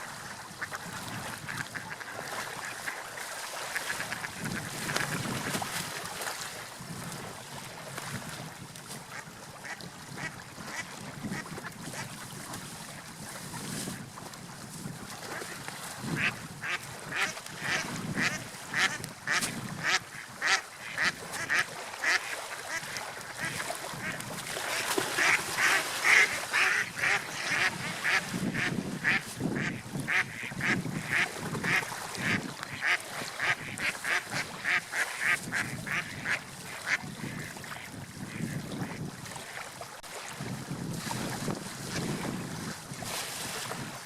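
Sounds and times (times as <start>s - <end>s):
wash of water or wind: 0.0s - 44.0s.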